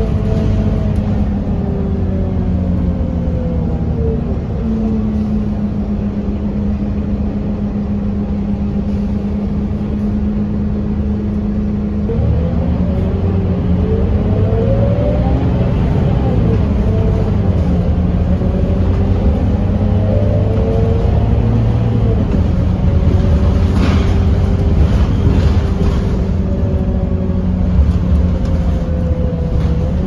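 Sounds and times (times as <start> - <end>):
bus diesel engine: 0.0 - 30.0.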